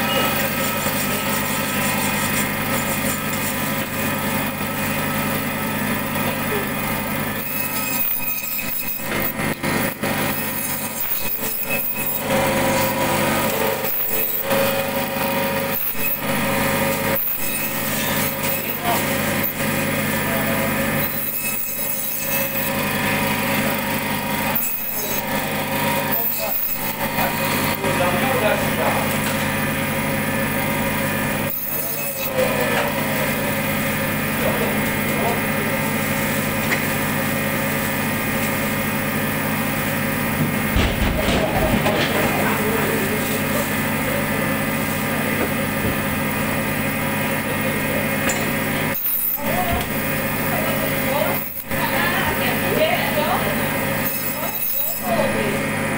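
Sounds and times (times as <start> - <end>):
small electric motor humming: 0.0 - 40.9, 42.2 - 55.9.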